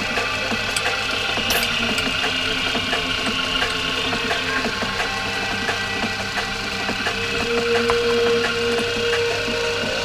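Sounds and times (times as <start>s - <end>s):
milling machine motor hum: 0.0s - 10.0s.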